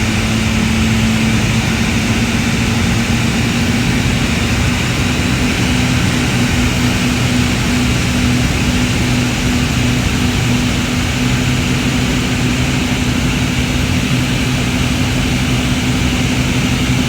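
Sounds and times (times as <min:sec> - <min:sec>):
helicopter turbine and rotor drone: 0:00.0 - 0:17.0.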